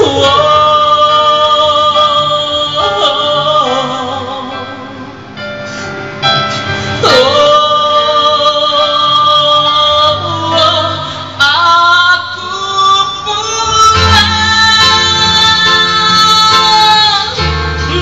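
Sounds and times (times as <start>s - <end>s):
man singing pop ballad: 0.0s - 5.1s, 6.9s - 18.0s.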